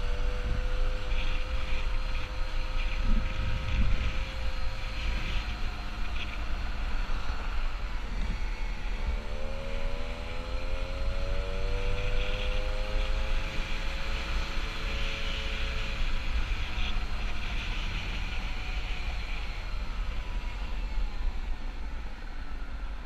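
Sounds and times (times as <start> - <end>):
moped engine accelerating: 0.0 - 21.0
wind rumbling on microphone: 0.0 - 23.0.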